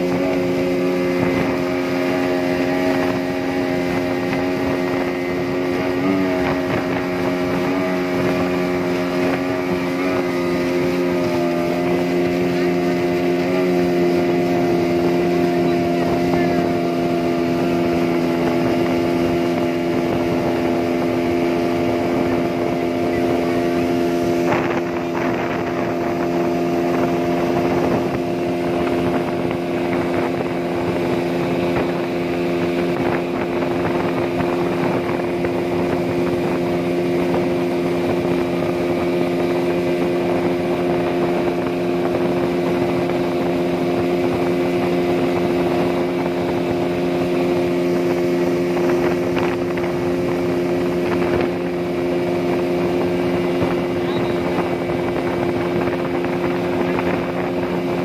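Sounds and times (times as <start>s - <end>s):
constant rushing noise: 0.0s - 58.0s
speedboat engine running: 0.0s - 58.0s.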